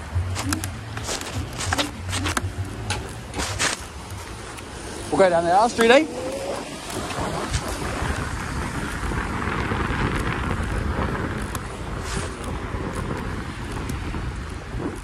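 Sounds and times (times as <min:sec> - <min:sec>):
scooter tyre rumble on concrete: 0:00.0 - 0:15.0
wind rushing over microphone: 0:00.0 - 0:15.0.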